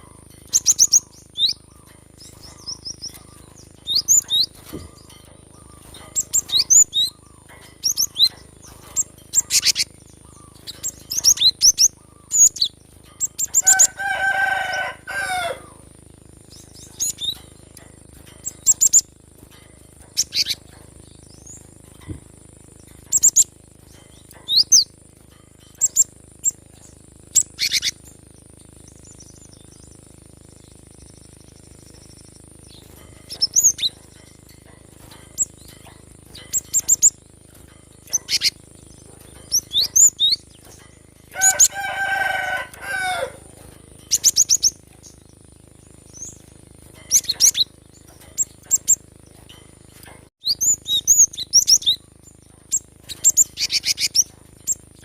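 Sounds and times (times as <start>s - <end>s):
bird chirping and trilling: 0.0s - 55.0s.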